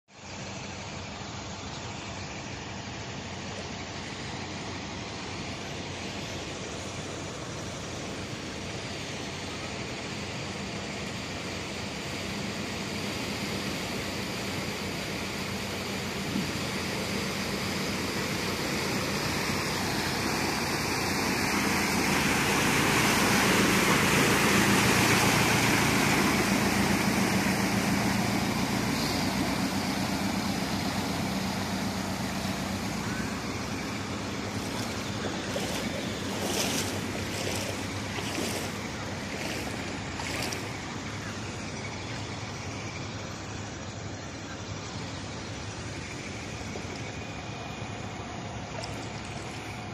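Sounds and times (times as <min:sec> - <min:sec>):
engine hum: 0:00.1 - 0:49.9
vehicle splashing through water: 0:00.1 - 0:49.9.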